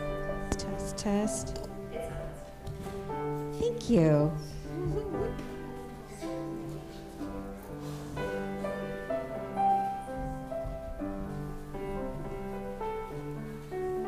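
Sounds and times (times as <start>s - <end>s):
slow keyboard instrumental music: 0.0s - 14.0s.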